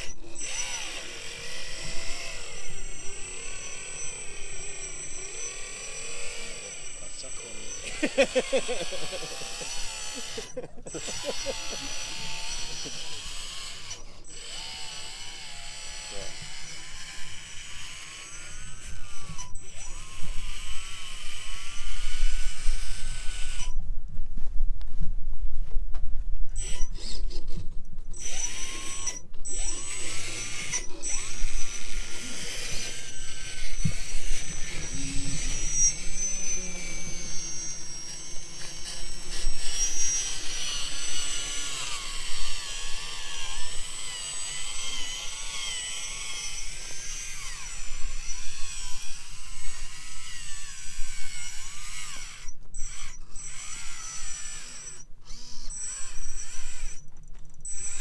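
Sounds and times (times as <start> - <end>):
toy truck electric motor whining: 0.0 - 23.8, 26.6 - 58.0.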